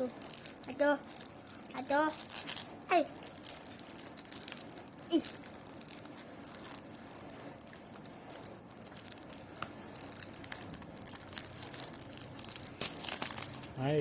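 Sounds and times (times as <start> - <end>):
packaging crinkling and rustling: 0.0 - 14.0
small clicks and crackles: 0.0 - 14.0.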